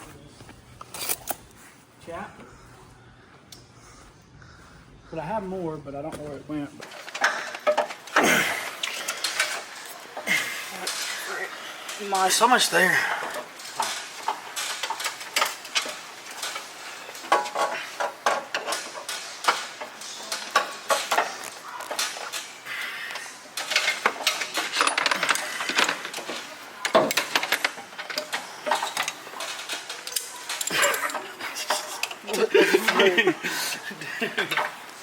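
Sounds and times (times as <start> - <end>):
metal tools clinking and clanking: 0.8 - 1.5, 6.8 - 35.0.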